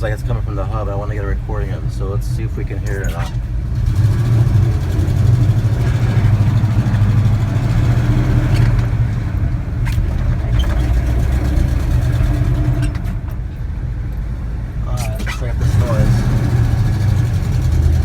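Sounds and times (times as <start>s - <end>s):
pickup engine and drivetrain drone: 0.0s - 18.0s.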